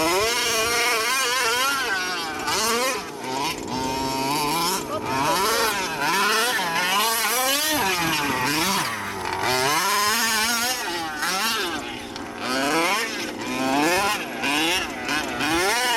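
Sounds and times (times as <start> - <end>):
small two-stroke engine revving: 0.0 - 15.9.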